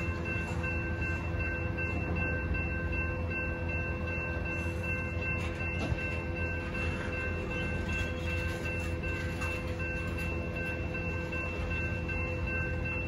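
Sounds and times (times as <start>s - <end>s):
crossing bell ringing: 0.0s - 13.0s
train wheels rumbling on rail: 0.0s - 13.0s.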